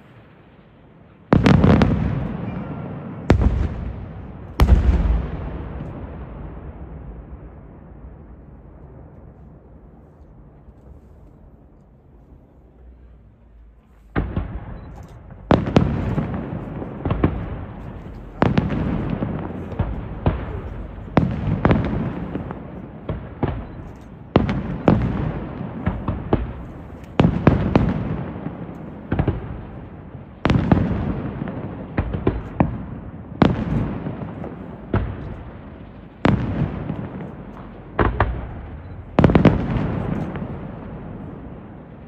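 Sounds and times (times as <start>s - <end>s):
fireworks bursting with echo: 0.0s - 42.0s.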